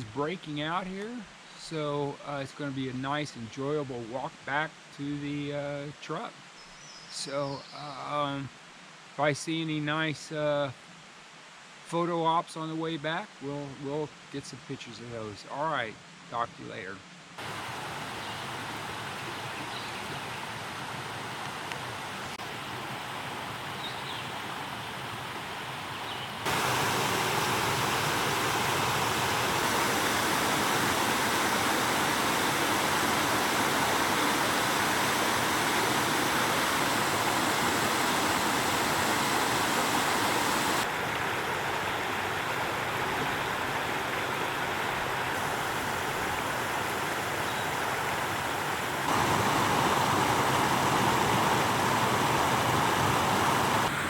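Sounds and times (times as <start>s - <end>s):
creek water over waterfalls: 0.0s - 54.0s.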